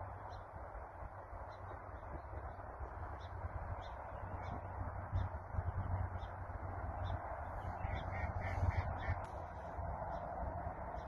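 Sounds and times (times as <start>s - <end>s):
distant bird calls: 0.0s - 11.0s
low wind rumble: 0.0s - 11.0s
outdoor background hiss: 0.0s - 11.0s.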